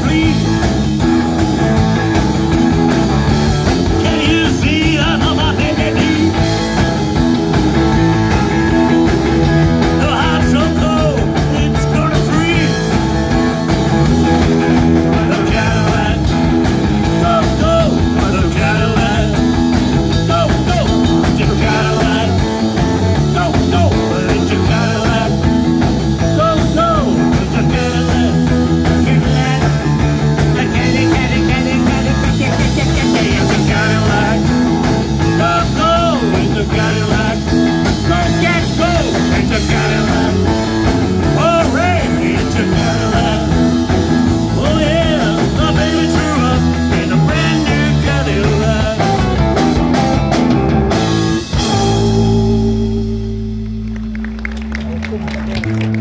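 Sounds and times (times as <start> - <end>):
drum kit beat: 0.0 - 54.4
electric bass: 0.0 - 56.0
electric guitar: 0.0 - 56.0.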